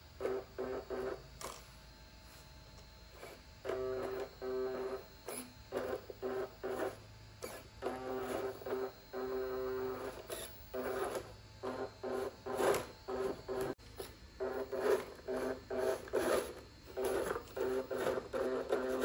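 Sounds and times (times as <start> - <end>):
toy car motor whirring: 3.1 - 19.0.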